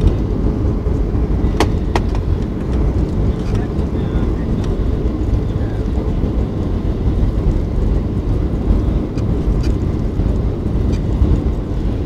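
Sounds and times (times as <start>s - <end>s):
airliner low rumble: 0.0s - 12.0s.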